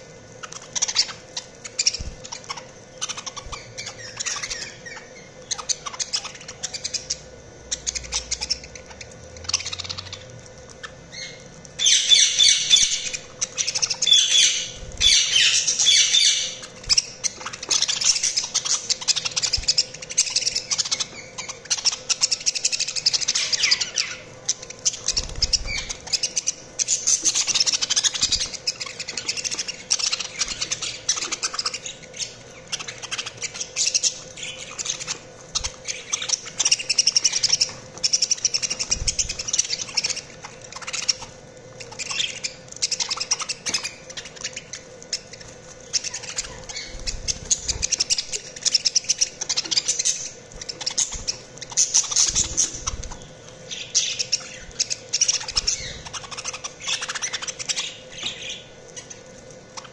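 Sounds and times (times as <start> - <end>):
budgerigars chattering and chirping: 0.3 - 59.9.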